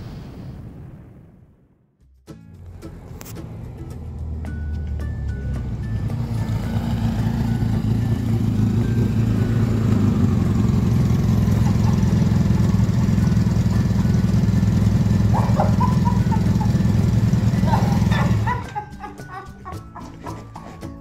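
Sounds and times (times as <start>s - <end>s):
motorcycle engine idling: 3.4s - 20.6s.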